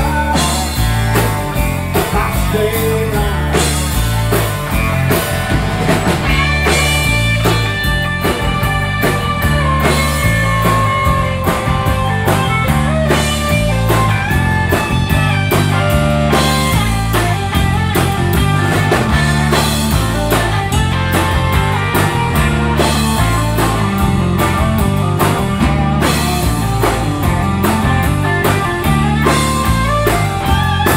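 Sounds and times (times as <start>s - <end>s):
bass guitar: 0.0s - 30.9s
drums: 0.0s - 30.9s
electric guitar lead: 0.0s - 30.9s.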